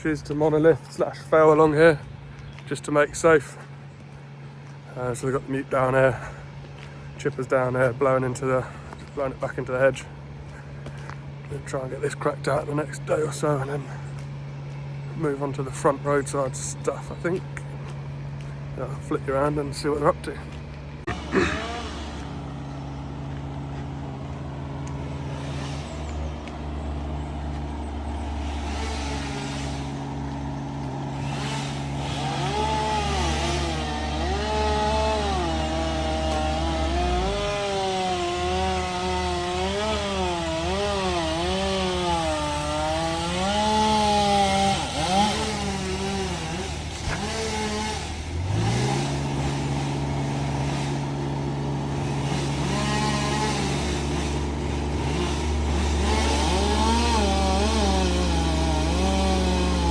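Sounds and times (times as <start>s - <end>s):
chainsaw revving and cutting: 0.0s - 59.9s
engine running: 0.0s - 59.9s.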